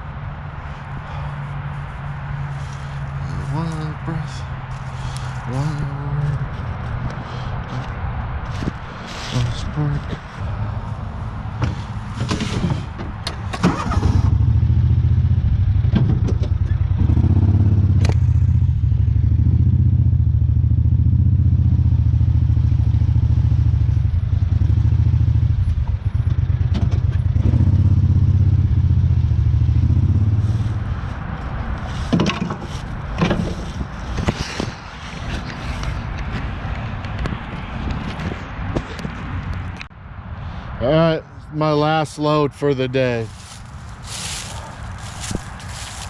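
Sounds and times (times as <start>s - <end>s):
vehicle engine droning: 0.0s - 46.0s.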